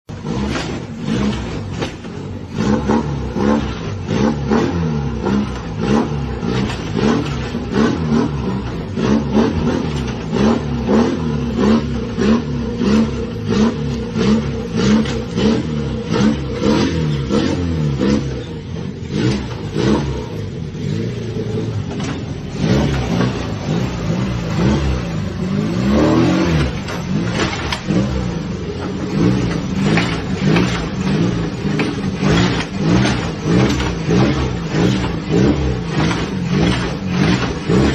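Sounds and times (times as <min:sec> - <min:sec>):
car engine surging: 0:00.0 - 0:37.9.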